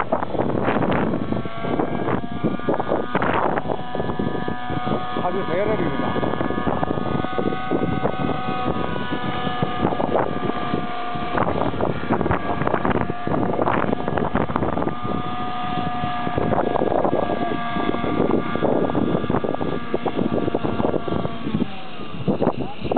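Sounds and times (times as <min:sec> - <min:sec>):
model helicopter whine: 0:00.0 - 0:22.9
wind buffeting microphone: 0:00.0 - 0:22.9.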